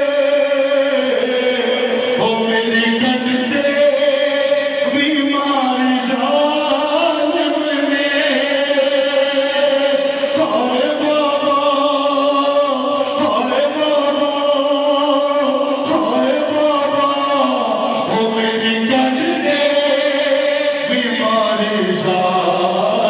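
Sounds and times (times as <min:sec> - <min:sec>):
man chanting a lament: 0:00.0 - 0:23.0.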